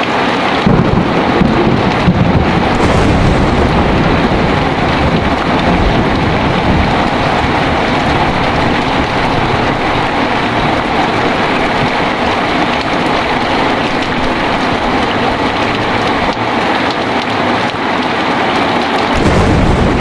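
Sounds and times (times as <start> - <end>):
heavy rain falling: 0.0 - 20.0
low rumble: 1.3 - 16.6, 19.2 - 20.0.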